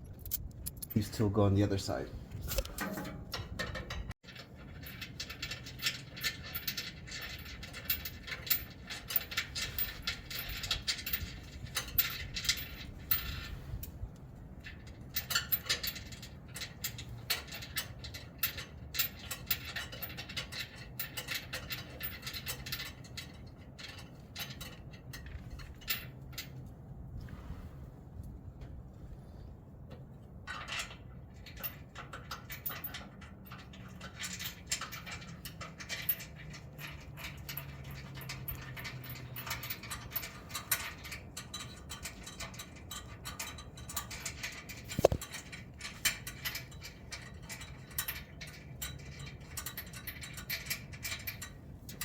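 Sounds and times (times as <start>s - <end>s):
bolts and washers clinking: 0.0s - 26.7s, 29.9s - 52.0s.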